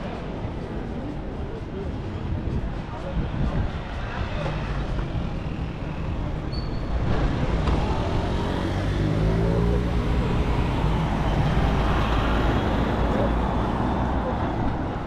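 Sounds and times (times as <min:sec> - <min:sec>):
general traffic noise: 0:00.0 - 0:15.0.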